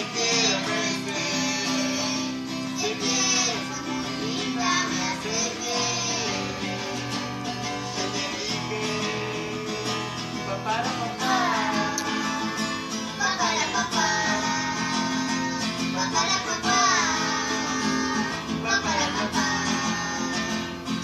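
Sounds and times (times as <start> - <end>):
acoustic guitar strumming: 0.0 - 21.0
voices singing: 0.0 - 21.0.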